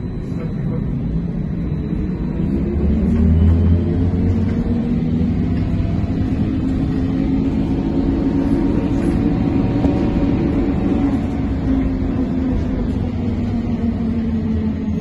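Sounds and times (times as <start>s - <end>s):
trolleybus ride rumble: 0.0s - 15.0s.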